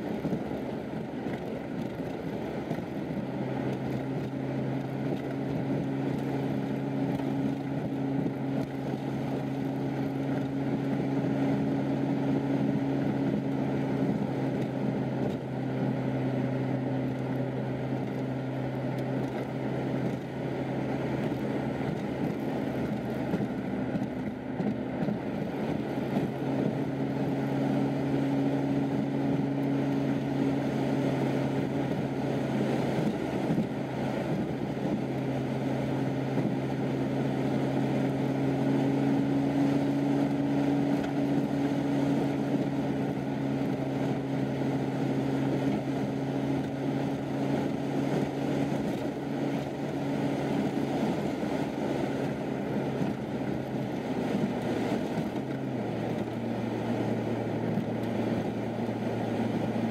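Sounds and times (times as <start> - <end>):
car engine hum: 0.0 - 59.9
tyre and road noise: 0.0 - 59.9.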